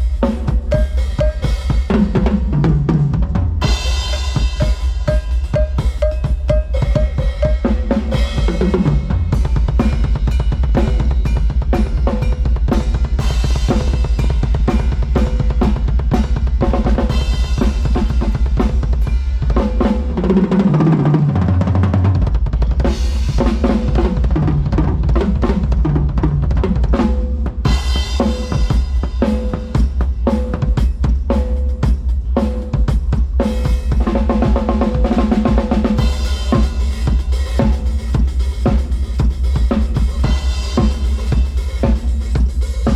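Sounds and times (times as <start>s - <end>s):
drum kit playing groove: 0.0s - 42.9s.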